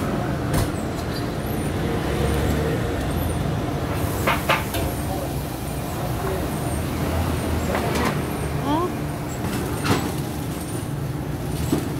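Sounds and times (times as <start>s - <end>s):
street traffic rumble: 0.0s - 11.9s.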